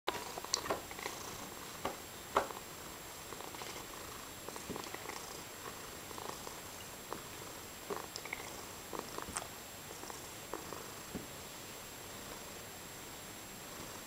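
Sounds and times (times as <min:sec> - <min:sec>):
cat purring: 0:00.1 - 0:12.8, 0:13.5 - 0:14.0.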